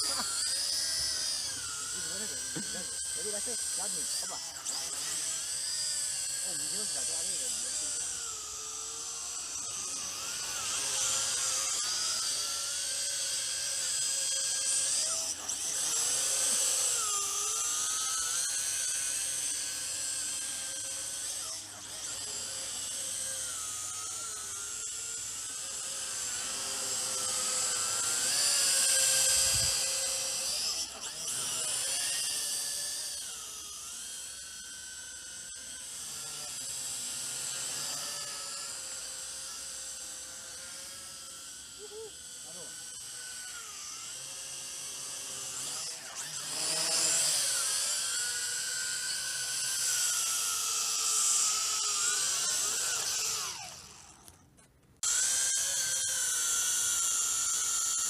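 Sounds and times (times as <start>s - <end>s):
quadcopter motors whining: 0.0s - 58.0s.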